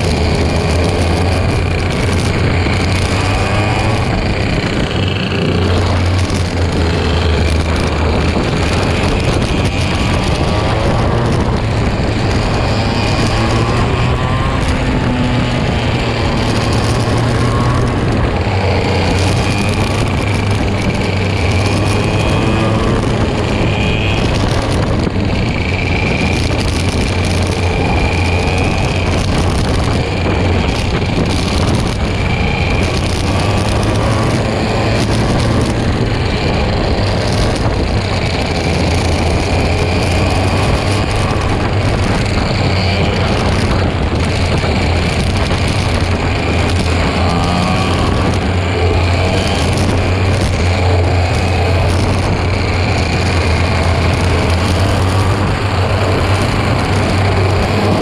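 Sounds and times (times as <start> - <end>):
kart engines buzzing: 0.0 - 58.0
low engine rumble: 0.0 - 58.0.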